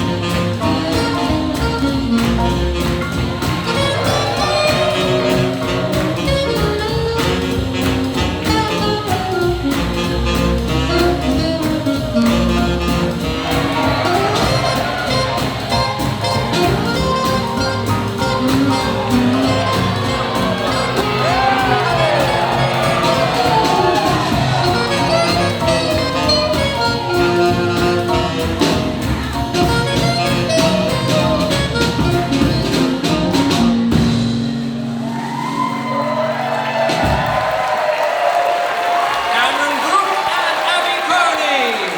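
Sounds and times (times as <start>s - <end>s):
trumpet: 0.0s - 34.1s
saxophone: 0.0s - 34.6s
steady drum beat: 0.0s - 34.8s, 36.6s - 41.9s
live swing jazz band: 0.0s - 41.9s.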